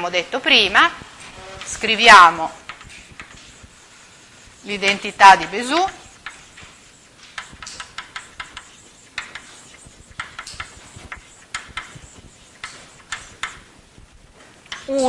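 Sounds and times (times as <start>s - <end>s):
chalk writing on a blackboard: 0.6s - 15.0s.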